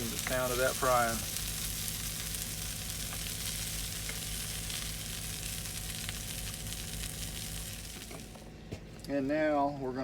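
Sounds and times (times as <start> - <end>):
food sizzling in a pan: 0.0 - 8.3.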